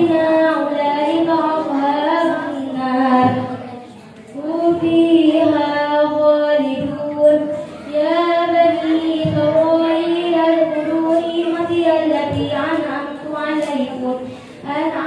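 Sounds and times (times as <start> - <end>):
girl reciting melodically: 0.0 - 15.0.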